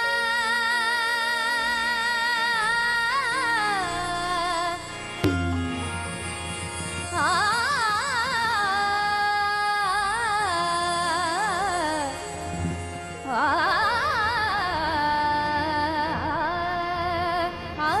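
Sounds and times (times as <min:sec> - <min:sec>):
harmonium: 0:00.0 - 0:18.0.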